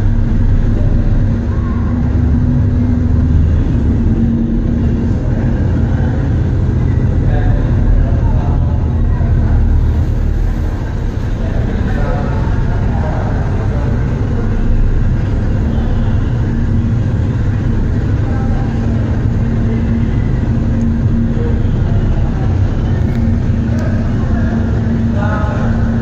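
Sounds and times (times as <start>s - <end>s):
engine hum: 0.0s - 26.0s
ferry engines rumbling: 0.0s - 26.0s.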